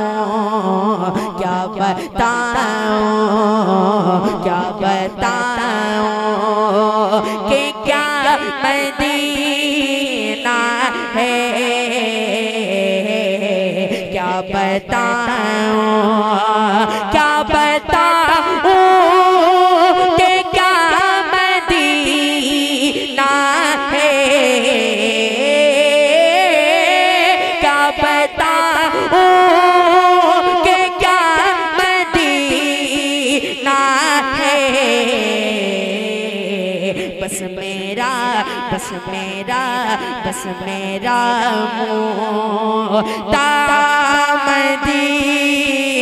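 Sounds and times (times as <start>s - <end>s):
boy singing into a microphone: 0.0s - 46.0s.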